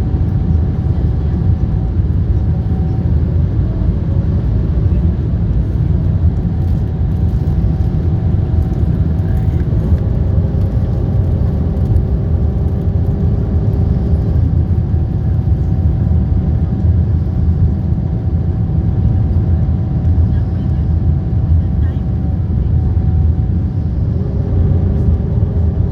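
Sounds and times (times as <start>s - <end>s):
aircraft low rumble: 0.0s - 25.9s.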